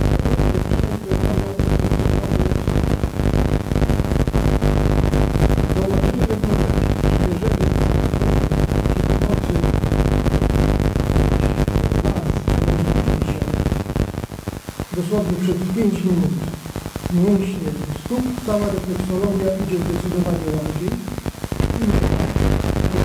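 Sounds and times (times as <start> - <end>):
dense electrical crackle: 0.0 - 23.0
loud electrical buzz: 0.0 - 23.0
mains hum tones: 0.0 - 23.0.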